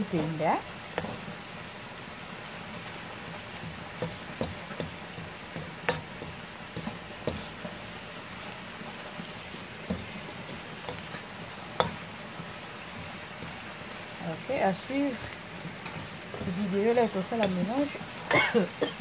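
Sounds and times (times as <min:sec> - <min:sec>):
chilli flakes sizzling in oil: 0:00.0 - 0:19.0.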